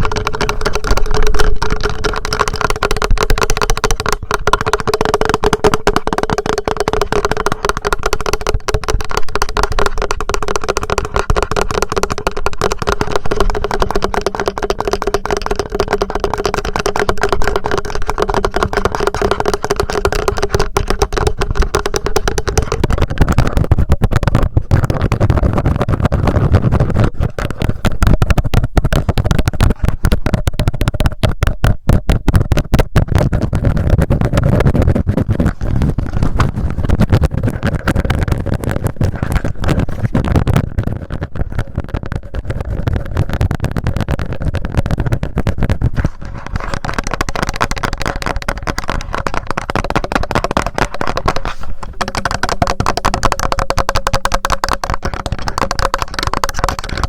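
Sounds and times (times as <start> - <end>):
fingertips tapping on recorder: 0.0 - 57.0.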